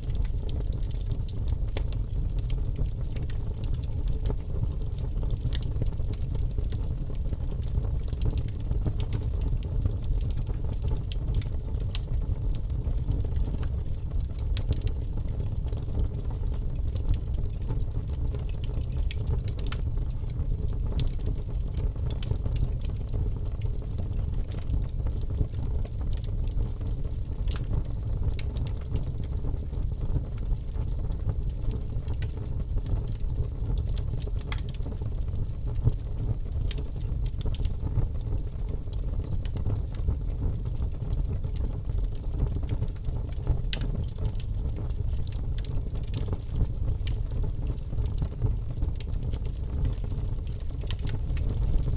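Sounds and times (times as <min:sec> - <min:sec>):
wood fire burning: 0:00.0 - 0:51.9.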